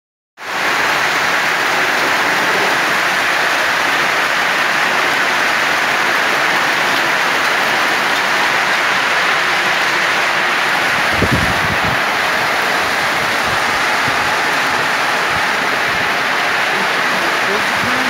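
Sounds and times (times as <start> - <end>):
heavy rain hissing: 0.4 - 18.0.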